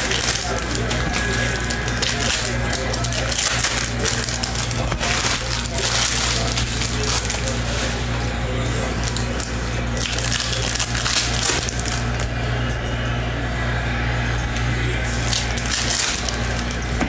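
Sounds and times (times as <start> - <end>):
plastic wrapper crinkling: 0.0 - 12.3, 15.1 - 16.9
steady low hum: 0.0 - 17.0.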